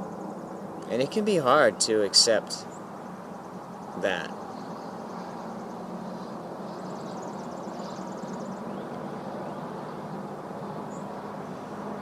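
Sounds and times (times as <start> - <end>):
faint high bird trill: 0.0 - 12.0
low hum and hiss: 0.0 - 12.0.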